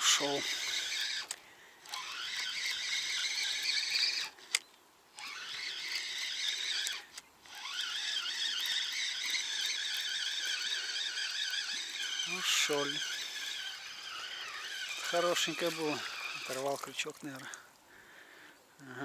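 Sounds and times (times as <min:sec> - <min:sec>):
fishing reel gears whining: 0:00.0 - 0:17.6.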